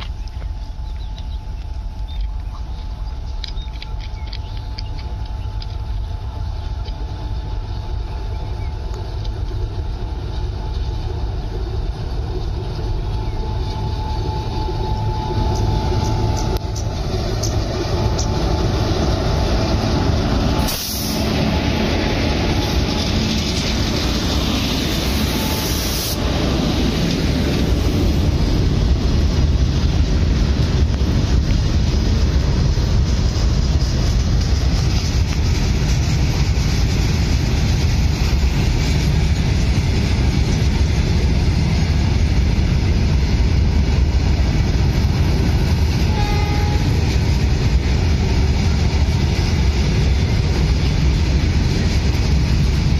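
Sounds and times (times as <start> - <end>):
freight train passing: 0.0 - 52.9.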